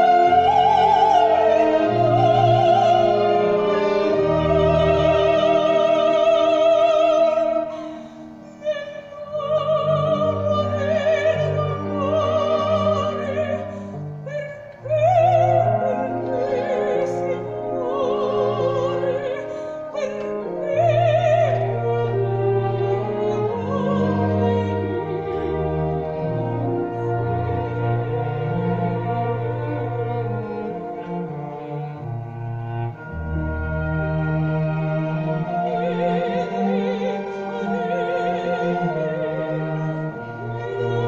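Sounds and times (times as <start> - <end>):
woman singing opera: 0.0 - 32.1, 33.0 - 41.0
instrumental accompaniment: 0.0 - 41.0.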